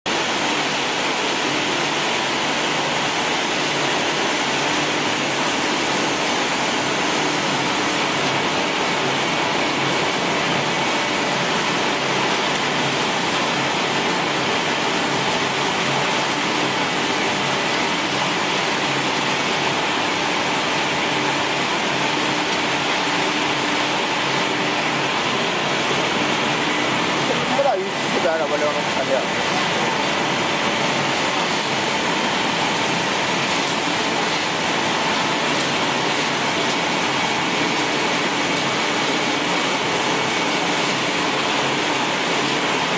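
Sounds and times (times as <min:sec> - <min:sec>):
pellet machinery running: 0:00.1 - 0:42.9.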